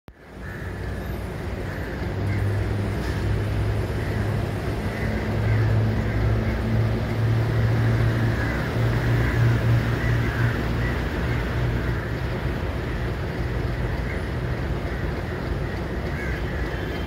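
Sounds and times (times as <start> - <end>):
diesel locomotive engine drone: 0.1 - 17.0.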